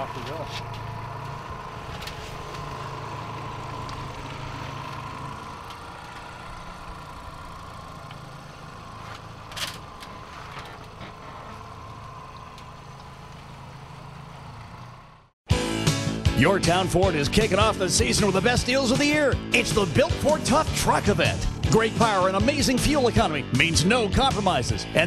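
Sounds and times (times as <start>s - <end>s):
boat motor humming: 0.0s - 15.4s, 16.6s - 25.0s.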